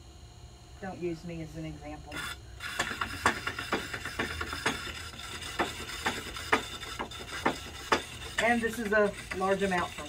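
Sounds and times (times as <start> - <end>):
pottery wheel hum: 0.0 - 10.0.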